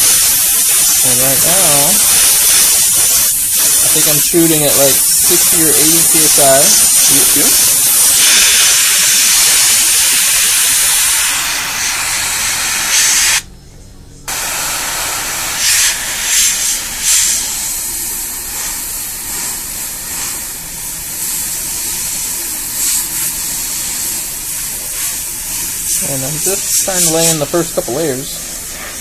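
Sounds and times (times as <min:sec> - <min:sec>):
airbrush spraying hiss: 0:00.0 - 0:13.5, 0:14.3 - 0:29.0.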